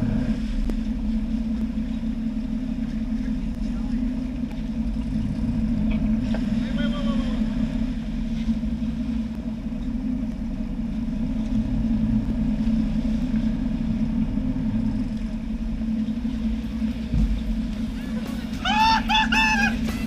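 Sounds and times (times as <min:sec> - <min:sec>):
boat engines humming: 0:00.0 - 0:20.0
water churning: 0:00.0 - 0:20.0.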